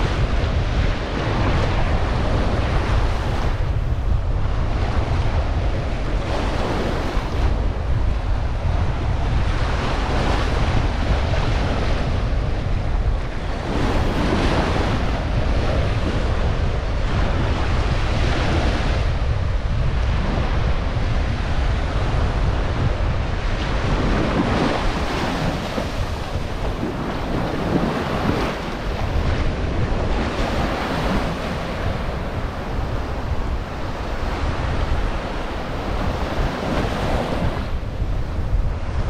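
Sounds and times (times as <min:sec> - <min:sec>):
ocean surf on beach: 0:00.0 - 0:39.0
wind buffeting microphone: 0:00.0 - 0:39.0.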